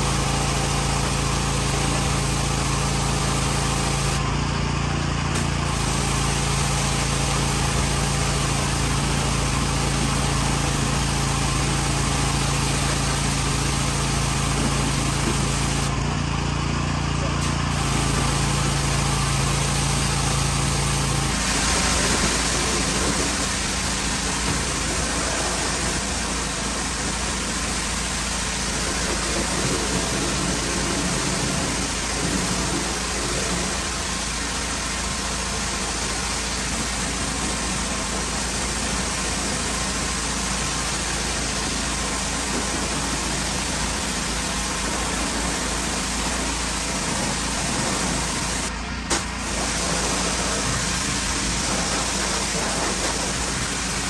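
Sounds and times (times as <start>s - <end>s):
pressure washer spraying: 0.0s - 4.3s, 5.3s - 16.0s, 17.2s - 54.0s
low engine hum: 0.0s - 54.0s.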